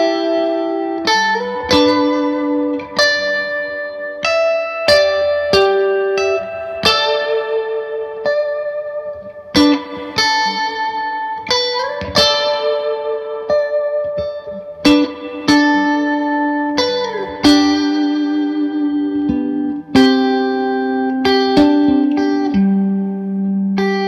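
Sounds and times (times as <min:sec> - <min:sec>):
clean electric guitar chords: 0:00.0 - 0:24.0.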